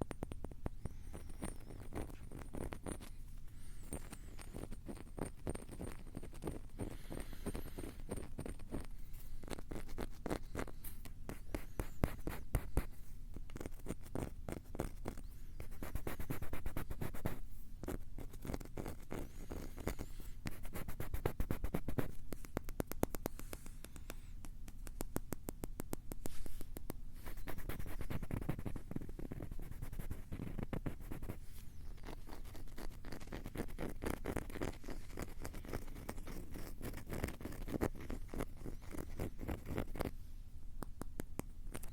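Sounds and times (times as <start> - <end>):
close scratching and tapping: 0.0 - 40.2, 40.8 - 41.9.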